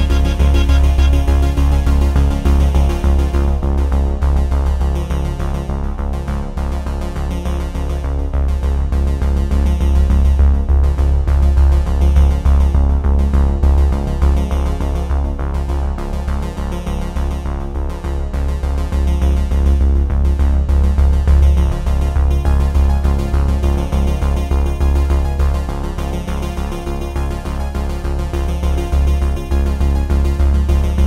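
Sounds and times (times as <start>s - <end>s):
electronic music with synthesizer bass: 0.0s - 31.0s.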